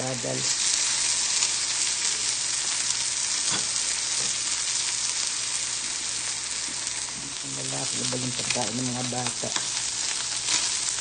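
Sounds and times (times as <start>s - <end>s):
chicken sizzling in a hot pan: 0.0s - 11.0s.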